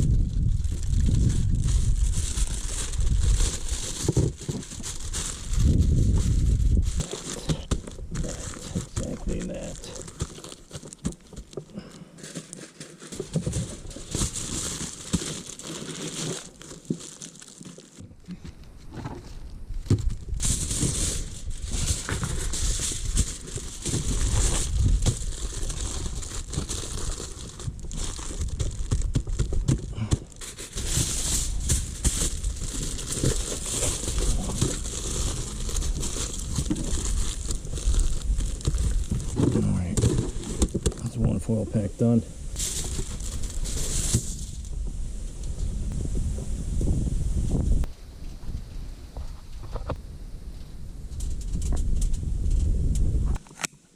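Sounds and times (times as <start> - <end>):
aluminium foil crinkling: 0.0 - 18.1, 19.4 - 44.8.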